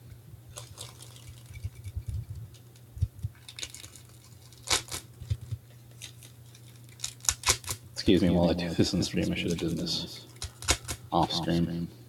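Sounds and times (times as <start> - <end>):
card packaging rustling: 0.5 - 11.0.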